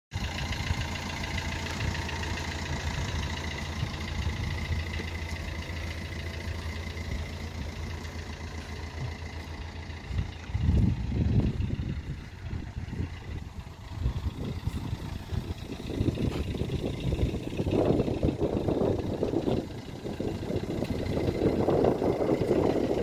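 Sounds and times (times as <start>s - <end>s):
car engine idling: 0.1s - 23.0s
low rumble: 0.2s - 23.0s.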